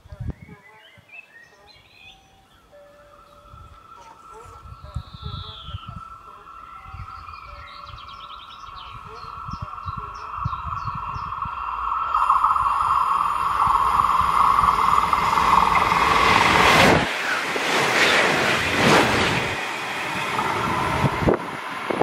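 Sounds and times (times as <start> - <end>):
passenger train passing at speed: 1.6 - 22.0
hum and hiss from rails: 2.1 - 22.0.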